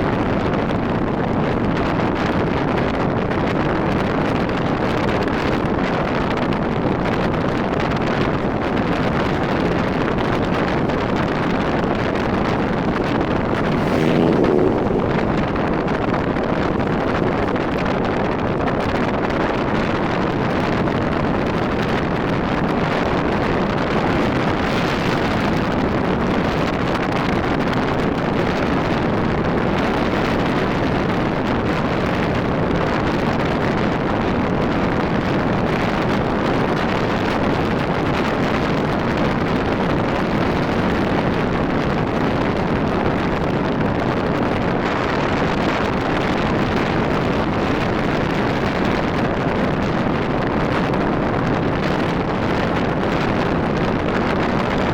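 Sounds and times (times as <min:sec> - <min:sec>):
motorcycle road noise: 0:00.0 - 0:54.9
wind rush on microphone: 0:00.0 - 0:54.9.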